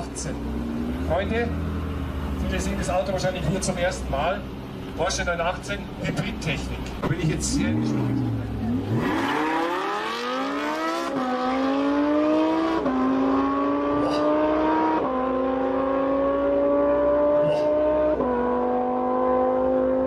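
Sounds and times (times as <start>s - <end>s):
cars accelerating at full throttle: 0.0s - 20.0s.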